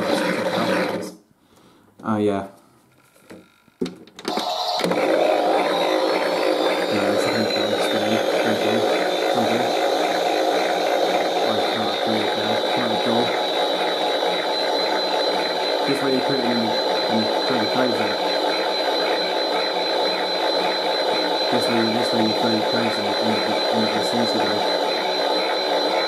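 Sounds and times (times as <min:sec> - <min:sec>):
toy washing machine motor whine: 0:00.0 - 0:01.1, 0:04.3 - 0:26.0.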